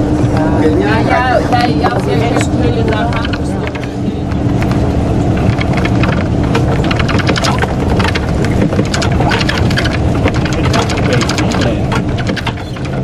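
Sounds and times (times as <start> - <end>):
vehicle engine humming: 0.0 - 13.0
rattles and clicks: 1.6 - 13.0.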